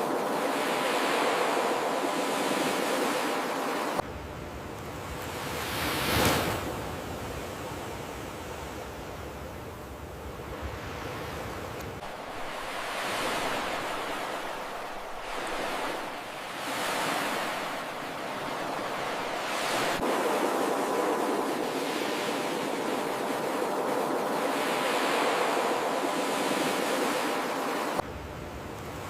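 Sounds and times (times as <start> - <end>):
ocean waves breaking: 0.0 - 4.0, 4.6 - 28.0.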